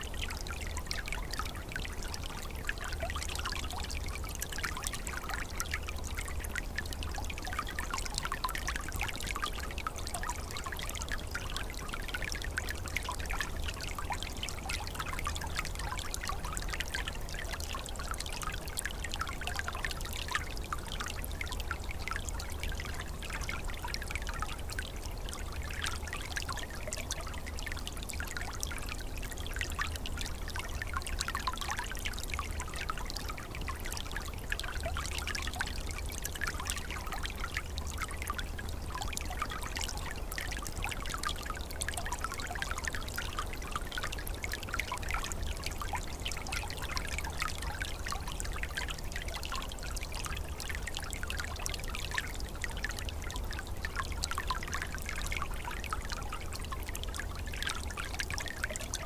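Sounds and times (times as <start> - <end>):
stream flowing and trickling: 0.0 - 59.0.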